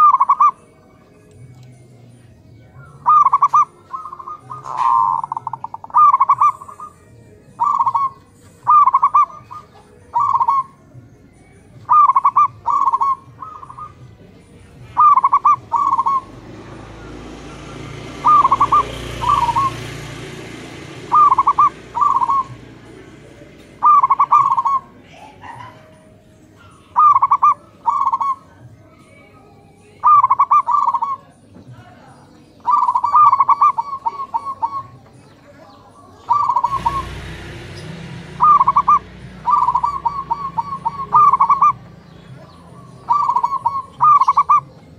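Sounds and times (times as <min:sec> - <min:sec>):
doves cooing: 0:00.0 - 0:44.9.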